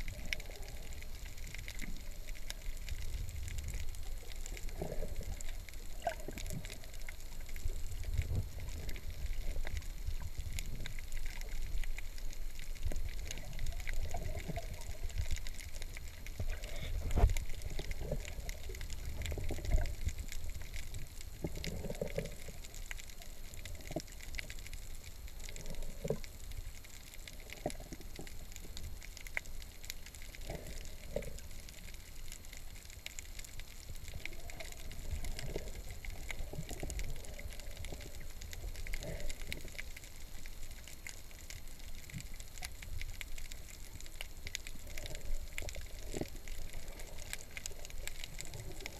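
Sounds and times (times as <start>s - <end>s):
faint clicks and knocks: 0.0s - 48.9s
muffled underwater rumble: 0.0s - 48.9s.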